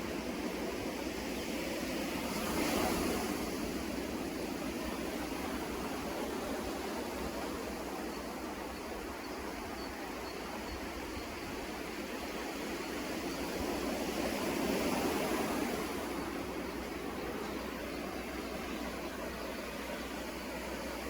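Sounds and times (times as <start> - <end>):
sea surf washing on shore: 0.0 - 21.0.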